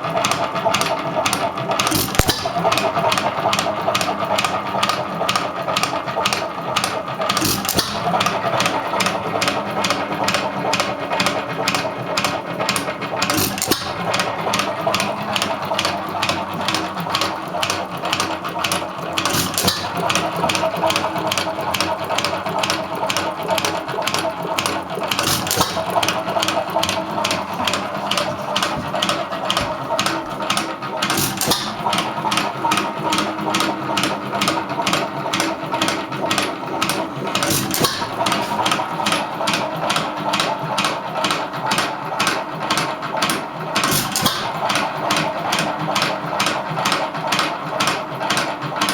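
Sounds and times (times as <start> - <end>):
stationary engine clattering: 0.0 - 48.9.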